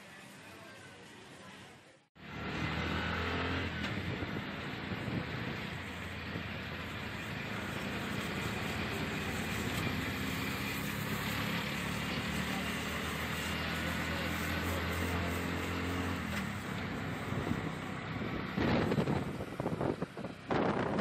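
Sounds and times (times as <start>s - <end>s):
vehicle engine humming: 0.0s - 21.0s
passing cars: 2.2s - 21.0s.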